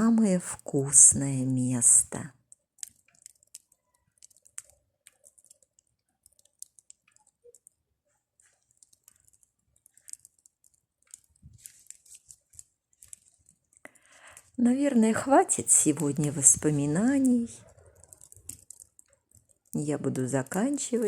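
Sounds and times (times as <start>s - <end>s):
wood fire crackling and popping: 2.2s - 7.8s, 8.4s - 21.0s.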